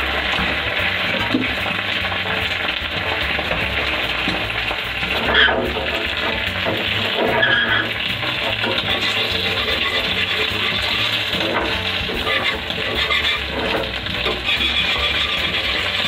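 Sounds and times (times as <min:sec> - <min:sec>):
egg sizzling in a pan: 0:00.0 - 0:16.0.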